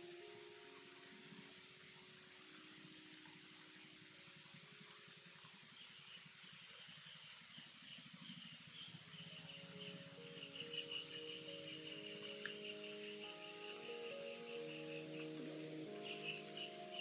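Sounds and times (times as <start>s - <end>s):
high-pitched insect trill: 0.0s - 17.0s
quiet music of long held notes: 0.0s - 17.0s.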